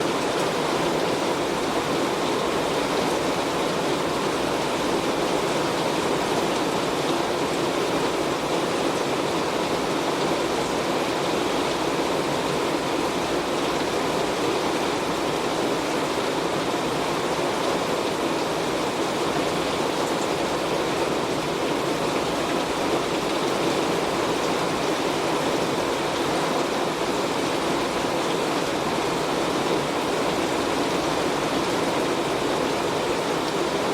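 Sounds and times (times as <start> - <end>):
heavy rain on a metal roof: 0.0 - 33.9.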